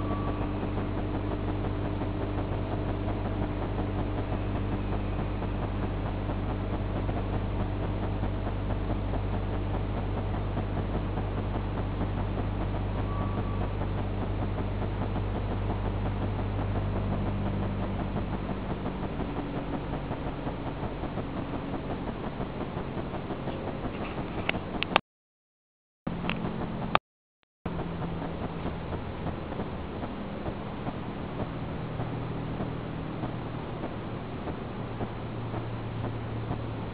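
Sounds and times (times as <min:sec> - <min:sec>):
motor hum: 0:00.0 - 0:25.0, 0:26.1 - 0:27.0, 0:27.7 - 0:36.9.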